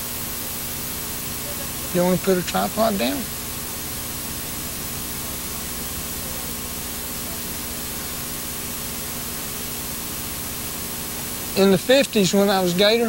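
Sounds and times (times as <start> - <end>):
faint low hum: 0.0 - 13.0
steady tape hiss: 0.0 - 13.0.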